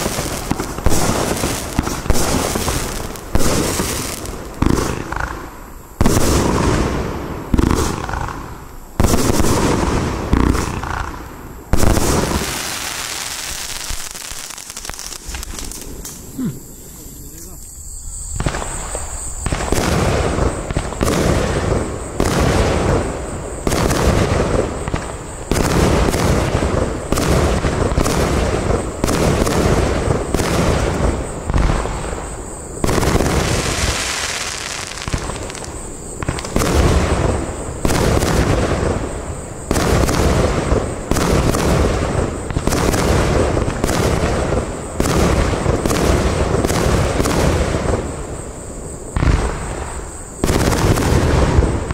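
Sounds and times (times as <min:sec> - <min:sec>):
distant fireworks bursting: 0:00.0 - 0:51.9
firework hiss: 0:00.0 - 0:51.9.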